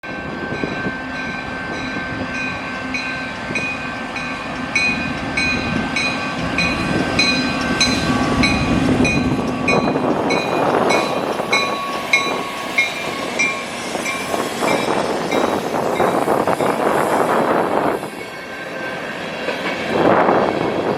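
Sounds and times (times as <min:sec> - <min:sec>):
freight train rumbling and rattling: 0:00.0 - 0:20.9.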